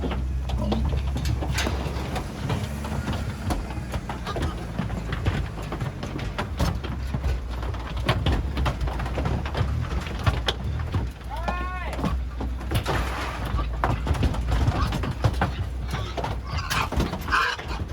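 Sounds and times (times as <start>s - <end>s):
pigs knocking and clattering: 0.0s - 17.9s
truck engine humming: 0.0s - 17.9s.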